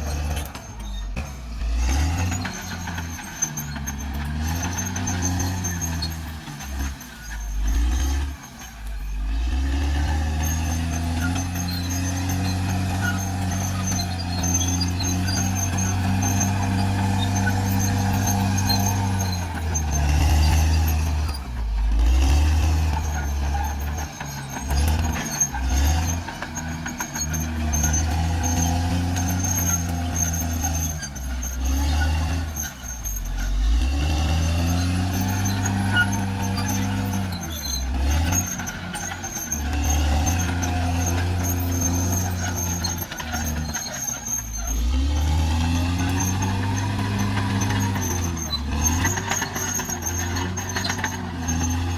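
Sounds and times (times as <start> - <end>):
bulldozer diesel engine under load: 0.0 - 51.9.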